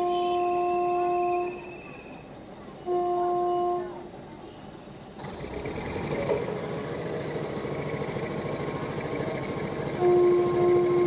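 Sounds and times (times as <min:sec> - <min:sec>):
railbus diesel engine rolling: 0:00.0 - 0:11.0.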